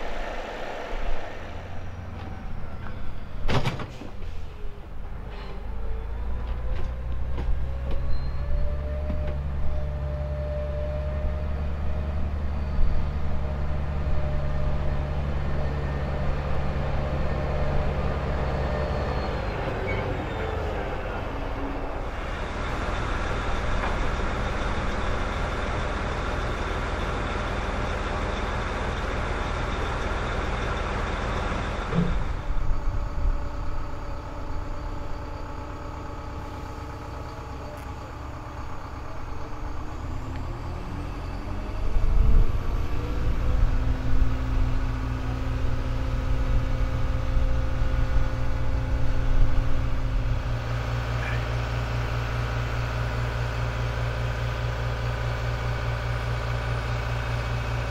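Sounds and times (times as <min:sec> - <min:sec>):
diesel truck engine passing: 0:00.0 - 0:07.8, 0:09.4 - 0:57.9
truck engines idling: 0:00.0 - 0:57.9.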